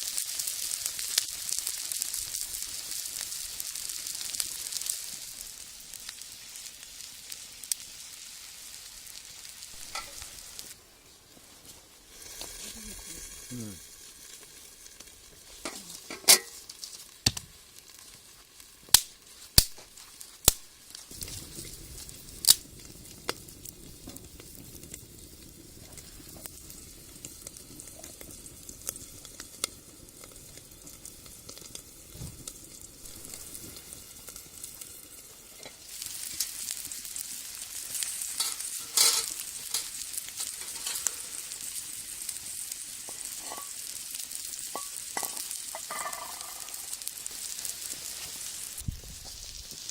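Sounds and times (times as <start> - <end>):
food sizzling in a wok: 0.0 - 49.9.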